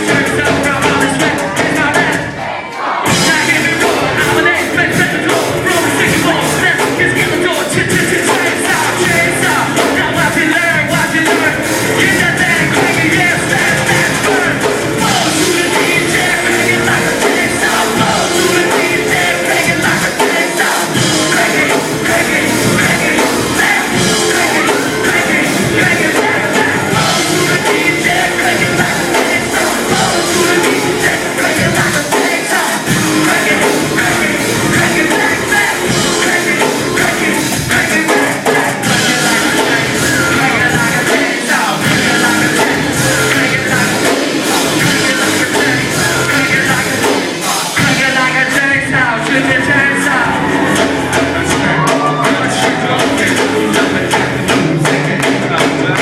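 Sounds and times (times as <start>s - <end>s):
person singing: 0.0s - 2.5s, 3.1s - 56.0s
distorted guitars: 0.0s - 56.0s
drums: 0.0s - 56.0s
rock band playing live: 0.0s - 56.0s.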